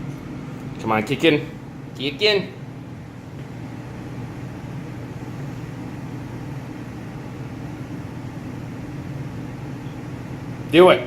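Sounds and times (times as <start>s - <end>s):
furnace fan humming: 0.0s - 11.0s.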